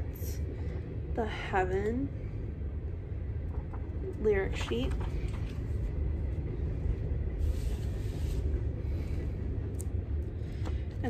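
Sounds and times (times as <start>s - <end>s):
passing train rumble: 0.0s - 11.0s.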